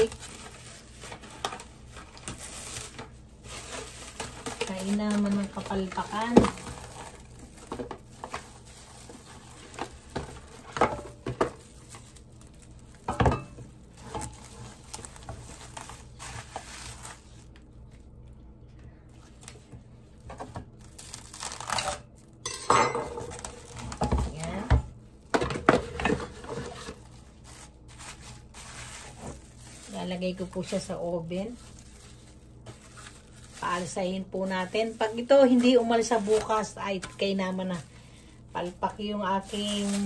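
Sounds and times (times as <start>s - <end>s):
plastic wrap crinkling: 0.0s - 22.5s, 23.1s - 40.0s.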